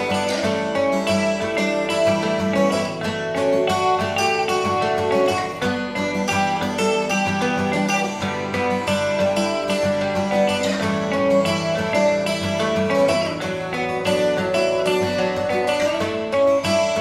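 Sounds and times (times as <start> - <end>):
strummed guitars: 0.0 - 17.0.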